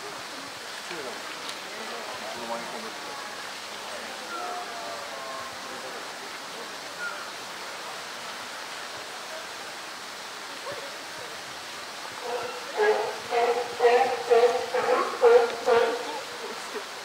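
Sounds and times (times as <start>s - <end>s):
faint distant voices: 0.0s - 17.0s
flowing water rushing: 0.0s - 17.0s.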